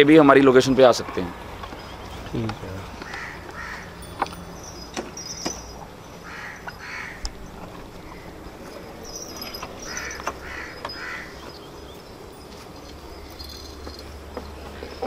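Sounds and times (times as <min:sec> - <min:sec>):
birds harsh calls: 0:00.0 - 0:15.0
bird chirps: 0:01.6 - 0:15.0.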